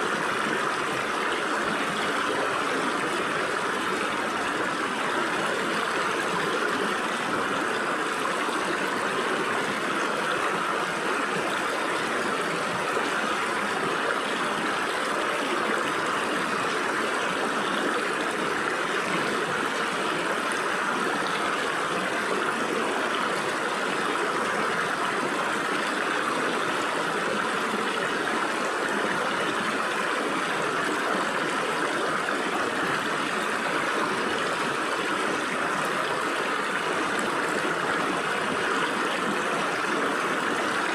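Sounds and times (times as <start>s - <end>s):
stream water gurgling through rocks: 0.0s - 40.9s.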